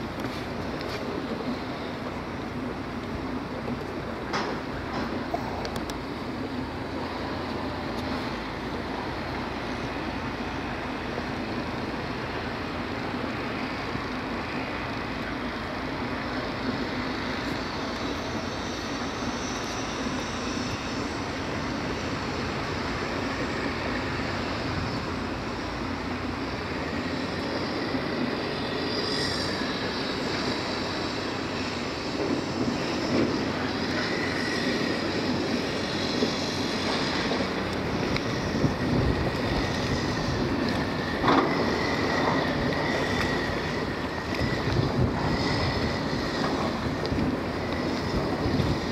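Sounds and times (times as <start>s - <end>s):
motorboat engine droning: 0.0s - 48.9s
wind: 0.0s - 48.9s.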